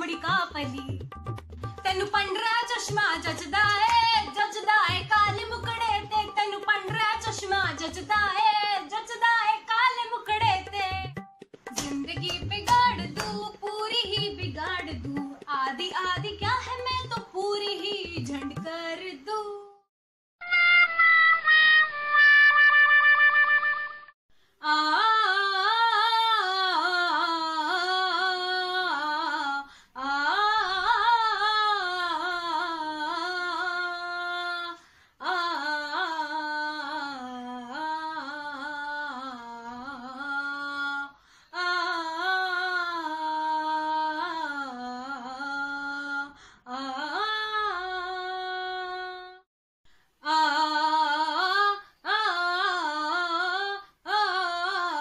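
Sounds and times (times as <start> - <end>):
woman singing unaccompanied: 0.0 - 1.1, 1.8 - 19.9, 24.6 - 49.4, 50.2 - 55.0.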